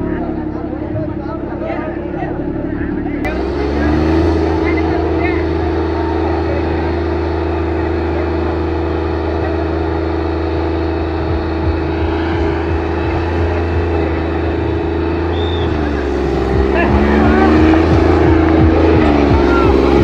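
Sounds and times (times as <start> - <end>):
faint crowd voices: 0.0 - 20.0
tractor diesel engine under load: 0.0 - 20.0.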